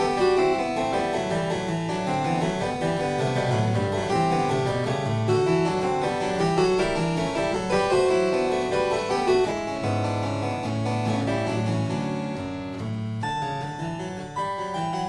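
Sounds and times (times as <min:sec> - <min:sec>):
harpsichord-like keyboard music: 0:00.0 - 0:15.0.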